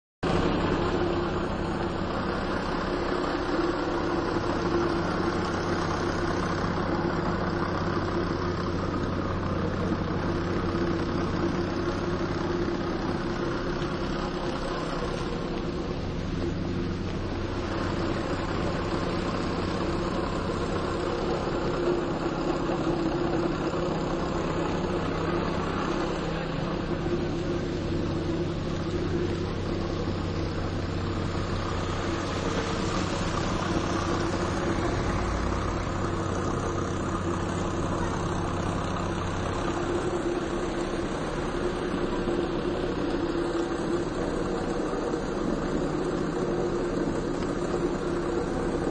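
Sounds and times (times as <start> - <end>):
vehicle engine idling: 0.2 - 48.9.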